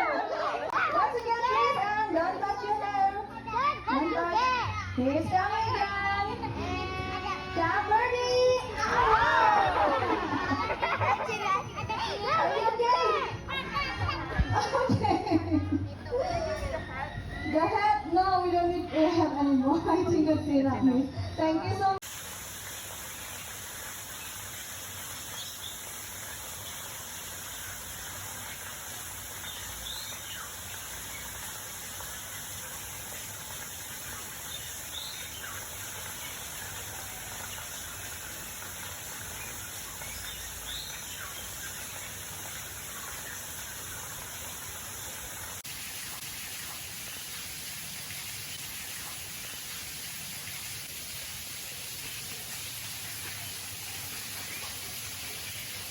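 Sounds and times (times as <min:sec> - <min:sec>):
outdoor background hiss: 0:04.6 - 0:16.8, 0:21.9 - 0:55.9.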